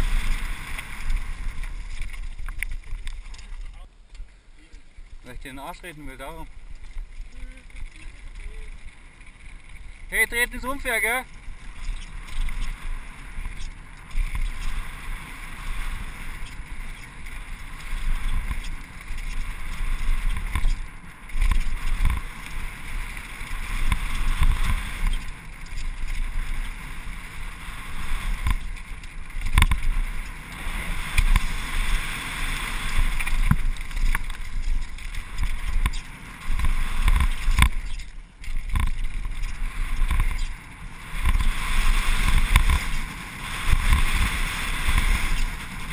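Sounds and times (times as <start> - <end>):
wind rushing over microphone: 0.0 - 3.8, 4.9 - 45.9
bike tyres rumbling on dirt: 0.0 - 45.9.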